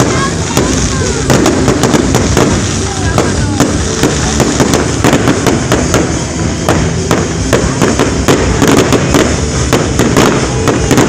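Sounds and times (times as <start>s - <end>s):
continuous low rumble: 0.0s - 11.0s
fireworks bangs and crackles: 0.0s - 11.0s.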